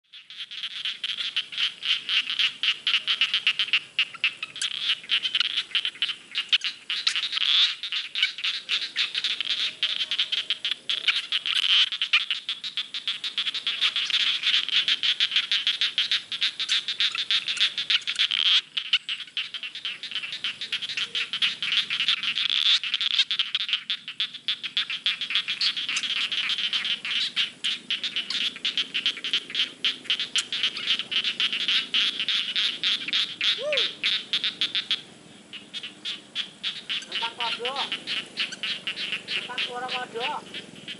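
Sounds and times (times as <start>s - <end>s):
frogs croaking: 0.0s - 40.9s.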